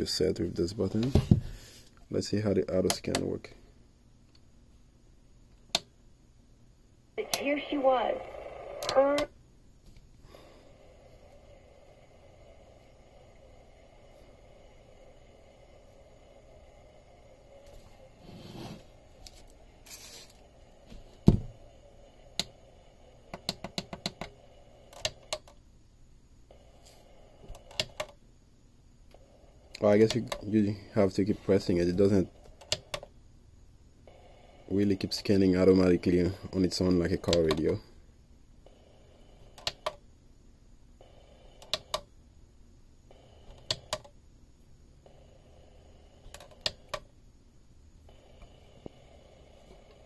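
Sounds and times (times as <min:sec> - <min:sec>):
faint radio hiss: 0:00.0 - 0:50.0.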